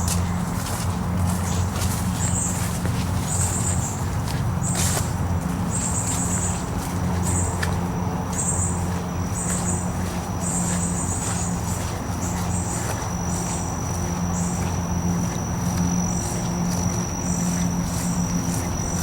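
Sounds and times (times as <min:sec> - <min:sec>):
insects trilling: 0:00.0 - 0:19.0
low steady hum: 0:00.0 - 0:19.0.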